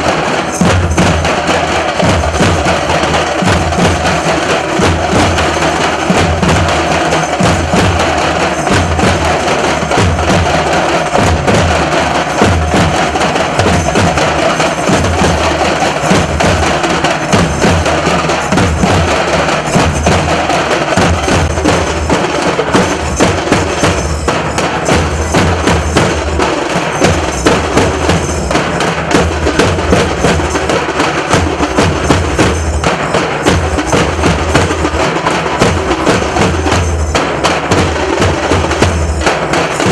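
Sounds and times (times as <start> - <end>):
deep booming drum beats: 0.0 - 39.9
fast drum clatter: 0.0 - 39.9.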